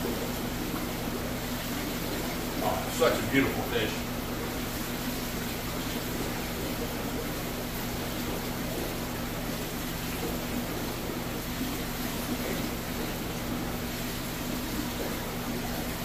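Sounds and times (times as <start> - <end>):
aquarium pumps humming: 0.0 - 16.0.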